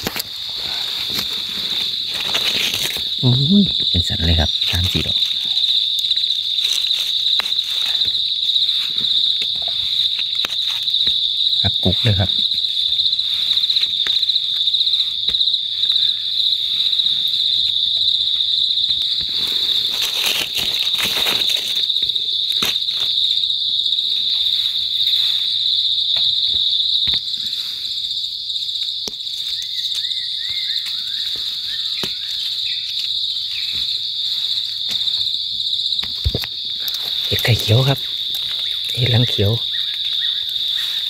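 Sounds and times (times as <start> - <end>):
crunching in dry leaves: 0.0 - 28.0, 29.2 - 41.0
insect chorus: 0.0 - 41.0.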